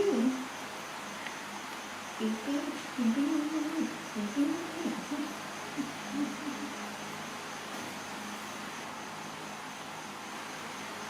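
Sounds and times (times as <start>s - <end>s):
faint low hum: 0.0s - 11.0s
steady background hiss: 0.0s - 11.0s.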